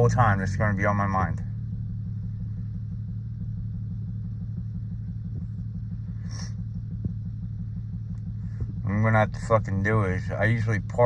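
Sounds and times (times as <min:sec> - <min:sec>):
car engine idling roughly: 0:00.0 - 0:11.0.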